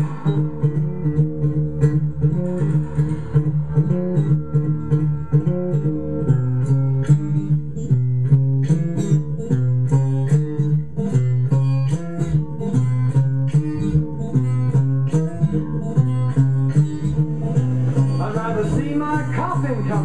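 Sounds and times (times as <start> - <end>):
acoustic blues guitar: 0.0 - 20.0.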